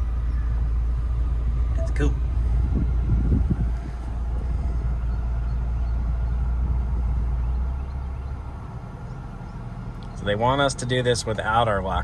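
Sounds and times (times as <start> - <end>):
vehicle engine rumble from cabin: 0.0 - 12.0.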